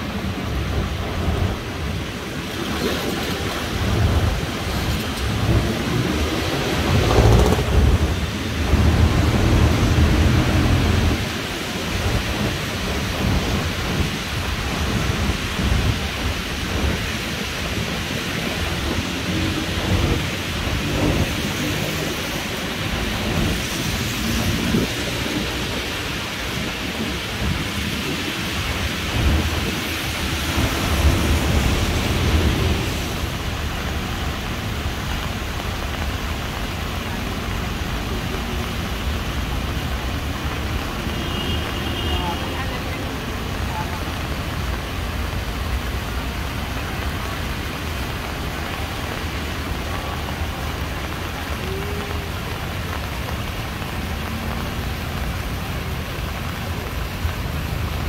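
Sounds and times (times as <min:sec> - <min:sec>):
rain and tyres hissing on wet road: 0:00.0 - 0:58.0
traffic rumble: 0:00.0 - 0:58.0.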